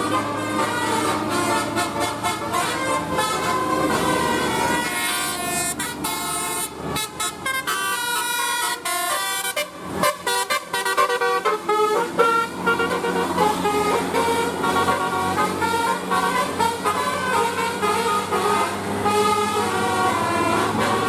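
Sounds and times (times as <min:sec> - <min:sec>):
multi-tone air horn melody: 0:00.0 - 0:21.0.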